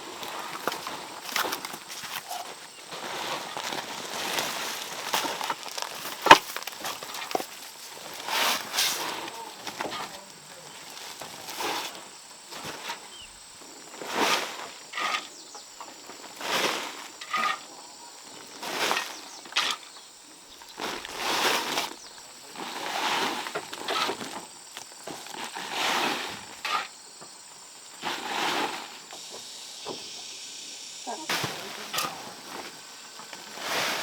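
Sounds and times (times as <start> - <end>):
hand tool scraping soil: 0.1 - 13.3, 14.0 - 15.5, 16.3 - 20.0, 20.7 - 24.4, 25.1 - 27.0, 28.0 - 30.4, 31.1 - 34.0.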